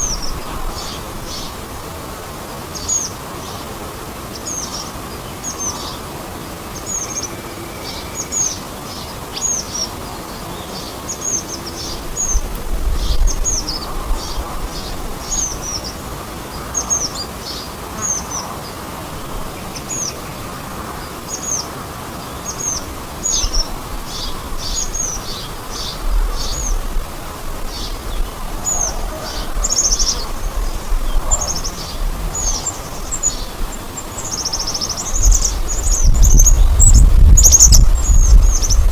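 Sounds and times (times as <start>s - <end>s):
small birds chirping: 0.0s - 1.7s, 2.7s - 6.1s, 6.7s - 38.9s
steady background hiss: 0.0s - 38.9s.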